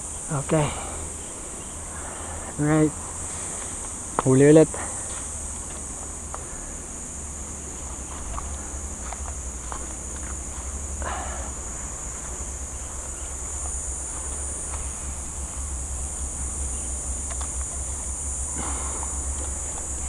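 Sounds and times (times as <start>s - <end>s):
insect chorus chirring: 0.0s - 20.0s.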